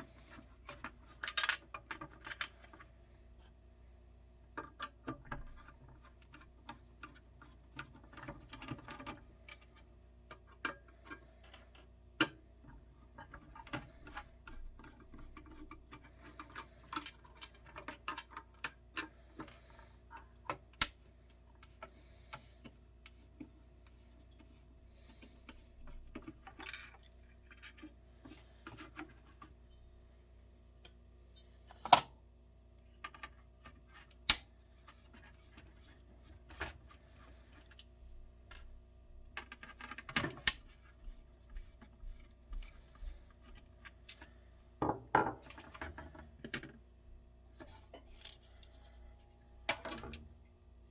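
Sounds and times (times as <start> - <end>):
small clicks and rattles of lid parts: 0.1 - 3.6, 4.5 - 29.8, 31.7 - 32.2, 32.8 - 38.7, 39.3 - 46.9, 47.5 - 50.4.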